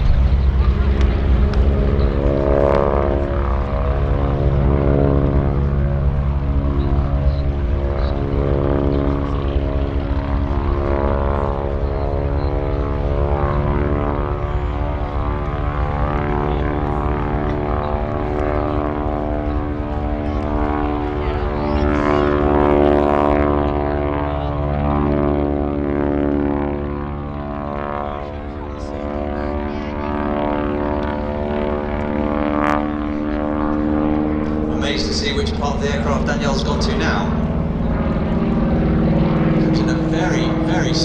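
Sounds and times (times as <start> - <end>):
biplane engine droning: 0.0 - 41.0.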